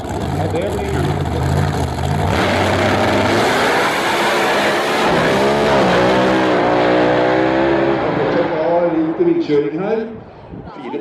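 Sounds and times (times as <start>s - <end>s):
racing car engine at full throttle: 0.0s - 9.4s.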